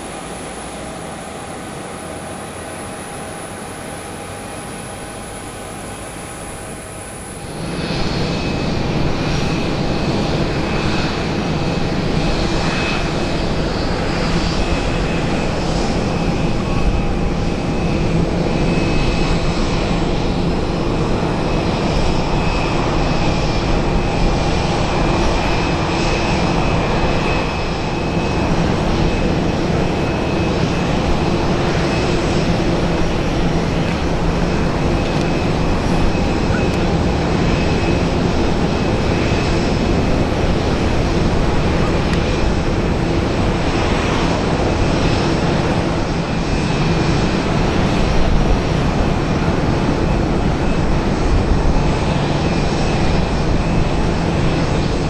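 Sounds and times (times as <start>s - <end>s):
jet engine whine: 0.0s - 55.0s
jet engines rumbling: 0.0s - 55.0s.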